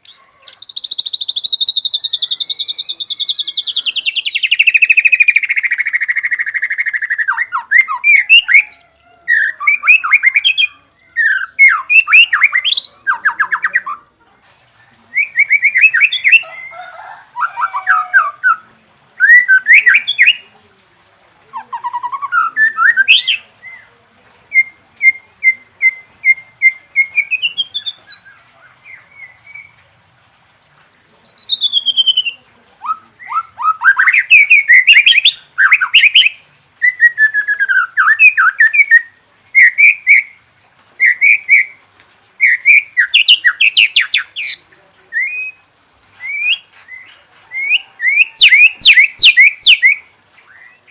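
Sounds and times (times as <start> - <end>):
bird singing varied song: 0.0 - 14.2, 14.8 - 40.4, 41.0 - 41.8, 42.4 - 50.9.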